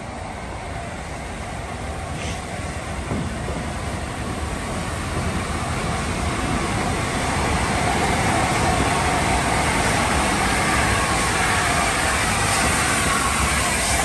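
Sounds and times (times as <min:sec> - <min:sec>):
steam locomotive rumbling: 0:00.0 - 0:14.0.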